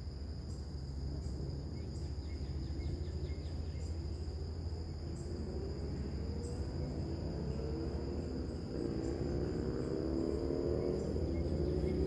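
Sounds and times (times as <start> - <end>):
constant low rumble: 0.0 - 9.8
crickets trilling: 0.0 - 12.0.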